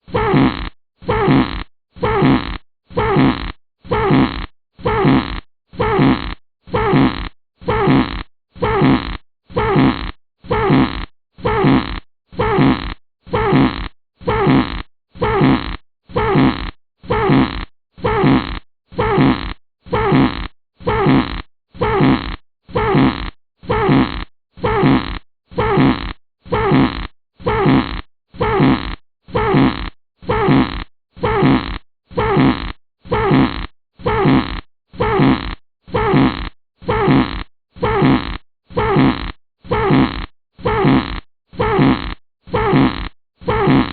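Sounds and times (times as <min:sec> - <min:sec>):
fart sound effect: 0:00.1 - 0:43.9.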